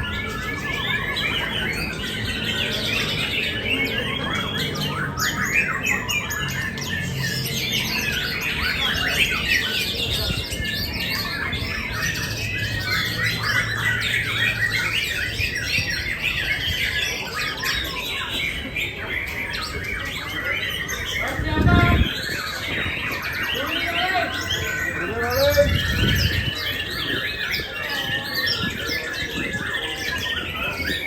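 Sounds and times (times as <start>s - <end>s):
songbirds chirping and trilling: 0.0s - 31.0s.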